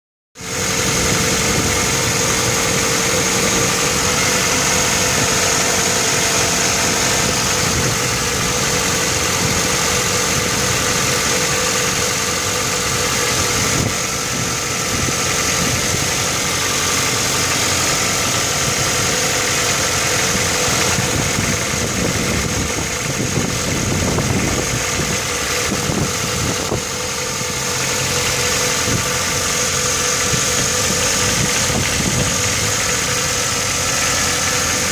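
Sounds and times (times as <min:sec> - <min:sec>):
car engine idling with knock: 0:00.4 - 0:34.9.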